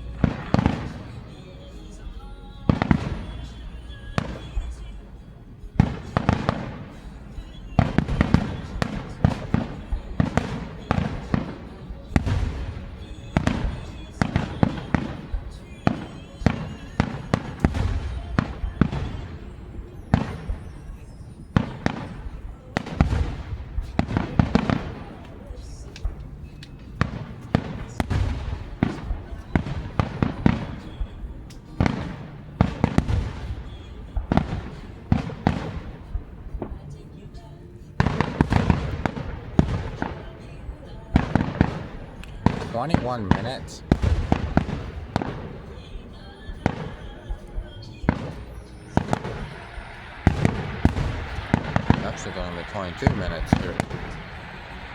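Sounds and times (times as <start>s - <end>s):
fireworks cracking and banging: 0.0s - 54.9s.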